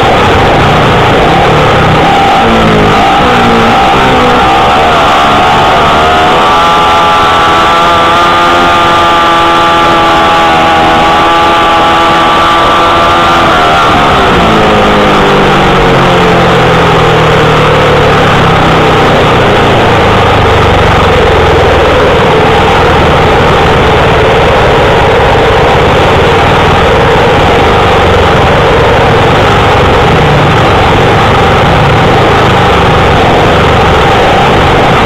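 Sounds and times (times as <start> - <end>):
loud rushing noise: 0.0 - 35.0
motorcycle engine revving: 0.0 - 35.0.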